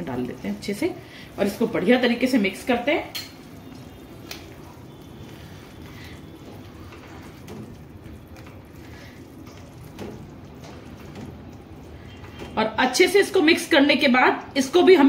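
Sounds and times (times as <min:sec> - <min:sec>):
spatula stirring wet gravy: 0:00.1 - 0:14.8.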